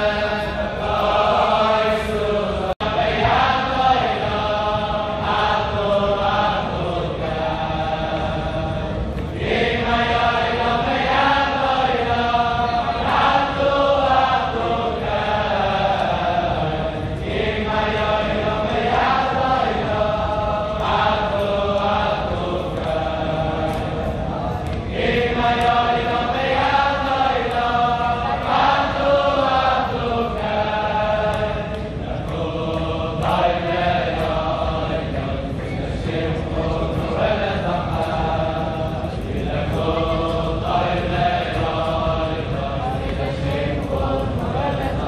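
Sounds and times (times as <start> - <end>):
men singing in unison: 0.0 - 45.0.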